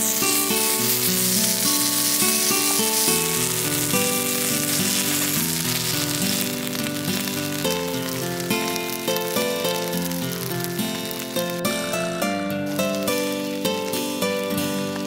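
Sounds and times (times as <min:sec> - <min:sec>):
acoustic guitar music: 0:00.0 - 0:15.0
sauce sizzling on hot plate: 0:00.0 - 0:15.0.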